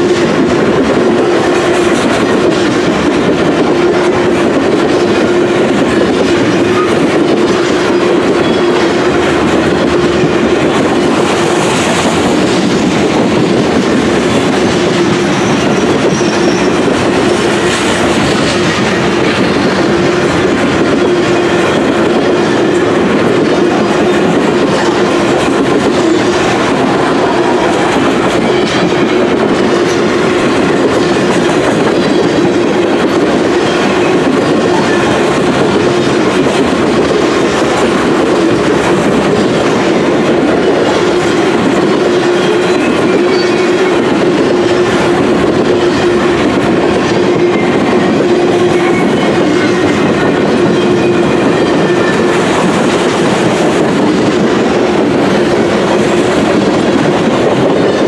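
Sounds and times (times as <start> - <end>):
clickety-clack over rail joints: 0.0 - 58.0
train wheels rumbling on rail: 0.0 - 58.0.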